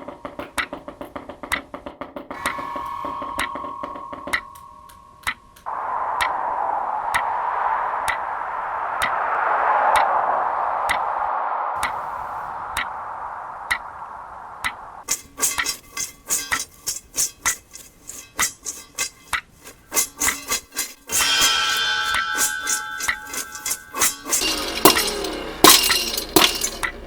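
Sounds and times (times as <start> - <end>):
steady hiss: 2.4 - 25.6.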